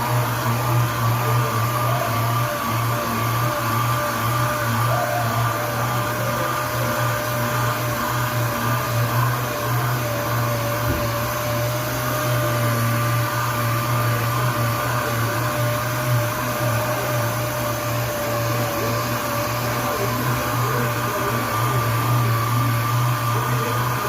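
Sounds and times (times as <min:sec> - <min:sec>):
power sander whirring: 0:00.0 - 0:24.0.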